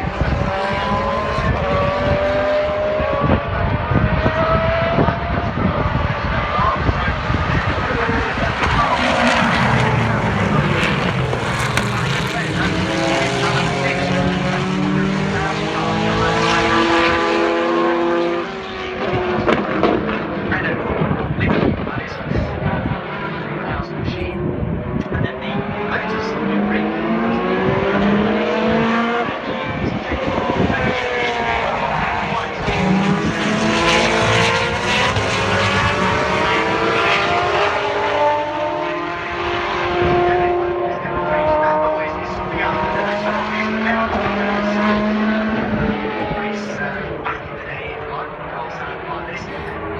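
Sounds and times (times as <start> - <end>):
racing car engine at high revs: 0.0 - 49.9.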